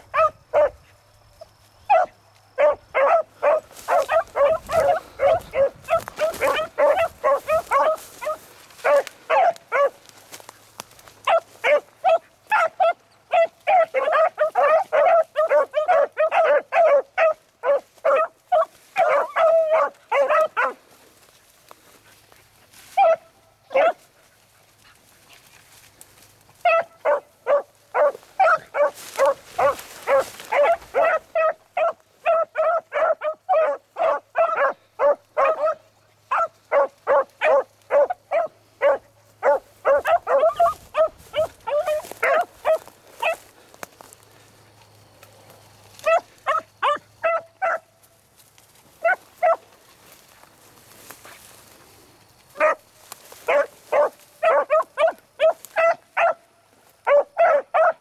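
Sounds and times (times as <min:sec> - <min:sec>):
beagles baying: 0:00.0 - 0:22.0, 0:26.6 - 0:44.5, 0:45.9 - 0:48.0, 0:48.9 - 0:50.4, 0:52.5 - 0:58.0.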